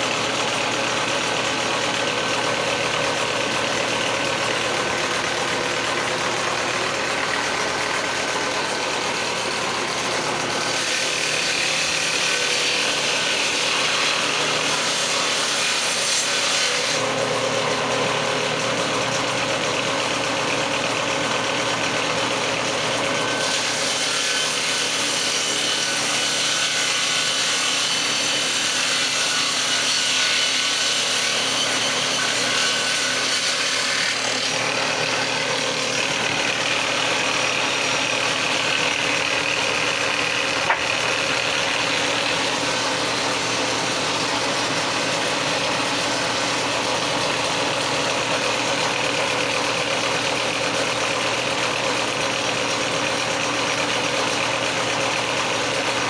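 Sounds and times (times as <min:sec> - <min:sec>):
power tool cutting wood: 0:00.0 - 0:56.0.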